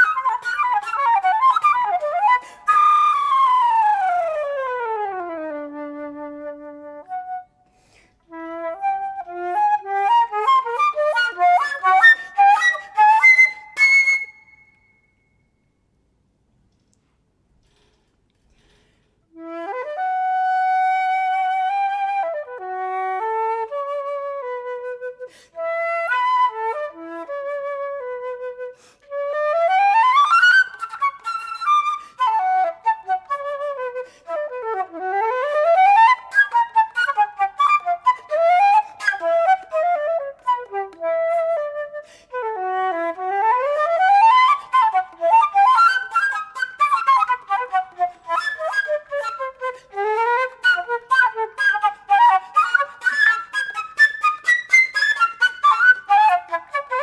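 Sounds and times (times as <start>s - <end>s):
solo flute playing: 0.0s - 15.5s, 19.3s - 57.0s.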